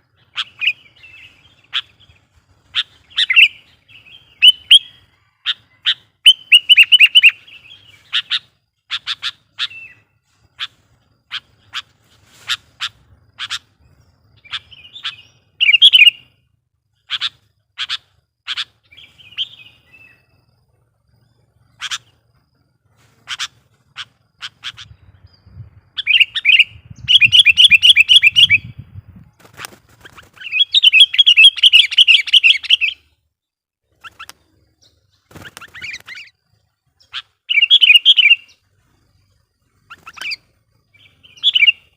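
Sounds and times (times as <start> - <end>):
bird calling chip notes and warbles: 0.0 - 22.4, 23.2 - 33.2, 33.9 - 41.9.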